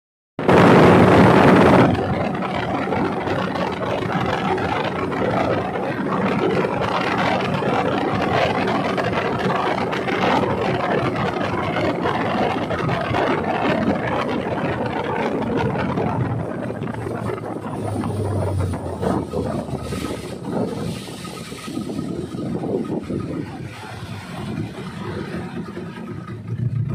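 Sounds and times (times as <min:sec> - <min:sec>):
boat engine running: 0:00.4 - 0:26.9
wind: 0:00.4 - 0:26.9
water rushing: 0:00.5 - 0:26.4.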